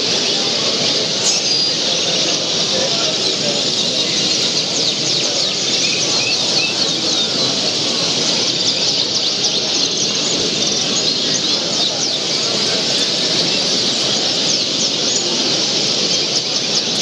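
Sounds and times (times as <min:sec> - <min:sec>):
canaries chirping and trilling: 0:00.0 - 0:17.0
low hubbub of hall: 0:00.0 - 0:17.0.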